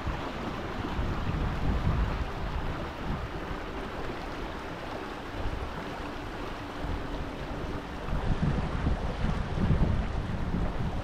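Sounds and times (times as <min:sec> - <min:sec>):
creek water running over rocks: 0:00.0 - 0:11.0
wind rumbling on microphone: 0:00.0 - 0:11.0.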